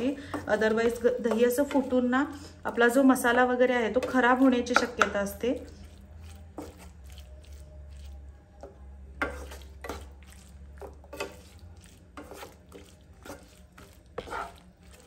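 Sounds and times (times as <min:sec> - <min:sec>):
spatula scraping a pan: 0:00.0 - 0:08.2, 0:09.1 - 0:15.0.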